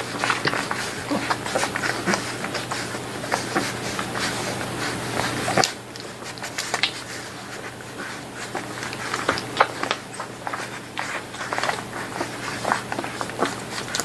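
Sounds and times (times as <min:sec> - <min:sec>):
puppies suckling: 0:00.0 - 0:14.0.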